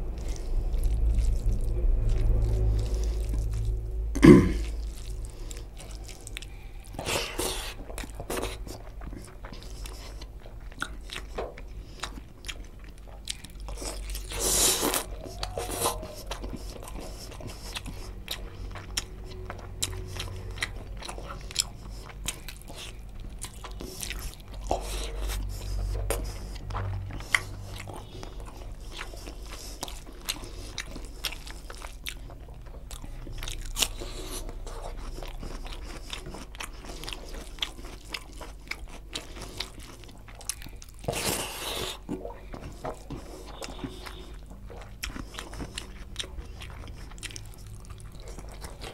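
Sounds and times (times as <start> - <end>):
person chewing and crunching food: 0.0 - 48.9.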